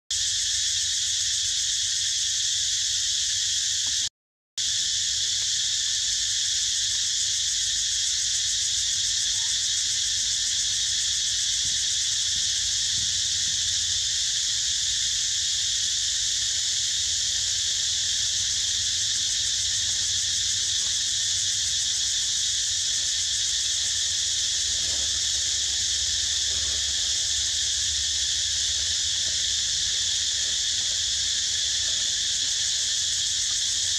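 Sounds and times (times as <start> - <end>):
forest insects droning: 0.1 - 33.9.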